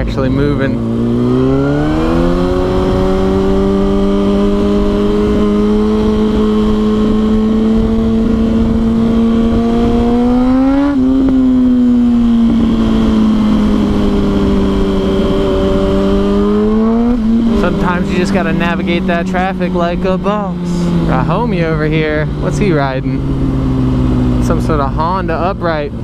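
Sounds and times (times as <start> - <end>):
sport bike engine revving: 0.0 - 26.0
wind rumble on microphone: 0.0 - 26.0.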